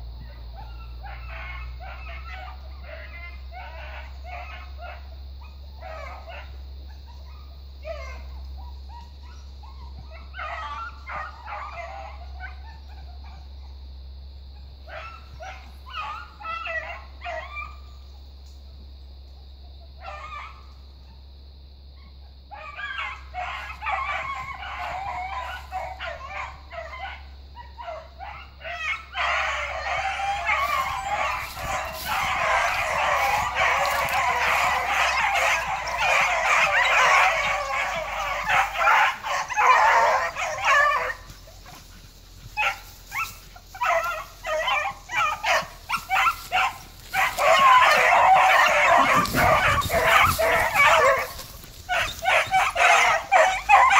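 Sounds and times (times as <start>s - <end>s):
dogs baying: 0.0s - 13.9s, 14.5s - 18.1s, 19.8s - 21.1s, 22.0s - 53.9s.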